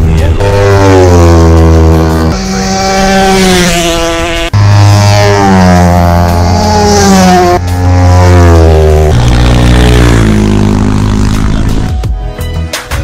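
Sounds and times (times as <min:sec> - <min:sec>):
racing motorcycle passing by: 0:00.0 - 0:12.0.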